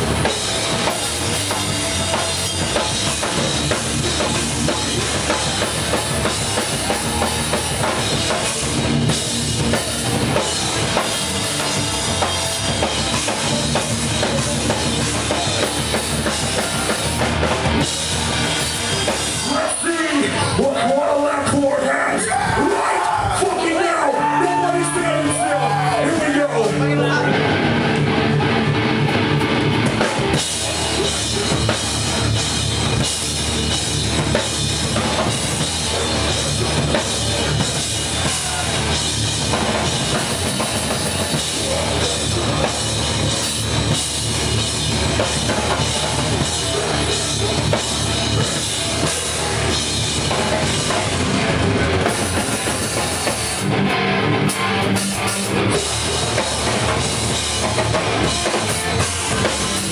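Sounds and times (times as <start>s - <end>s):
heavy guitars and bass: 0.0s - 59.9s
pounding drum kit: 0.0s - 59.9s.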